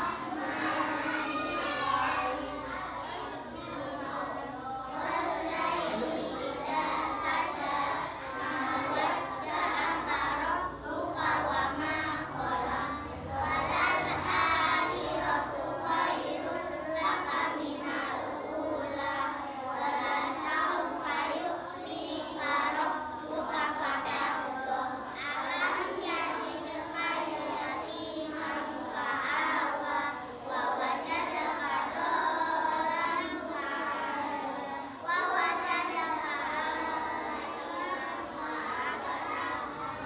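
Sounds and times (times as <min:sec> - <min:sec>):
children chanting in unison: 0:00.0 - 0:40.0.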